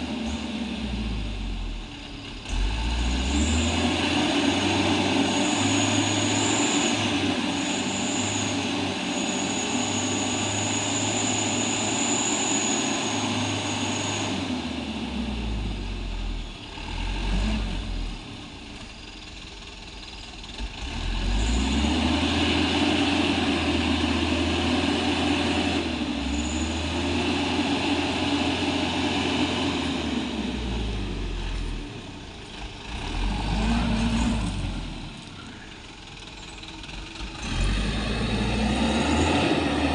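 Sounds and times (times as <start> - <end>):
truck engine under load: 0.0 - 39.9.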